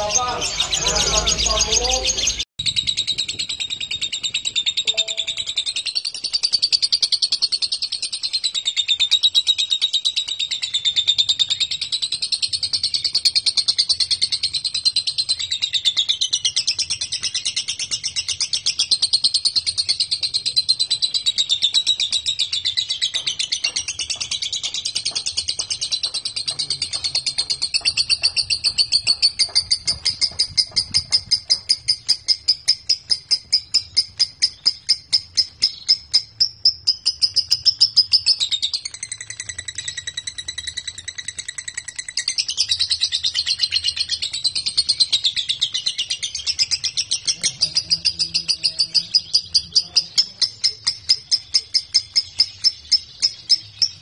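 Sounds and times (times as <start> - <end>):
lovebird chattering song: 0.0 - 54.0.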